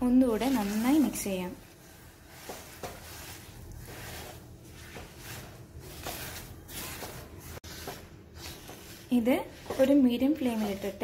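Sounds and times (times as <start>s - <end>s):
spatula scraping dry mix in pan: 0.0s - 11.0s.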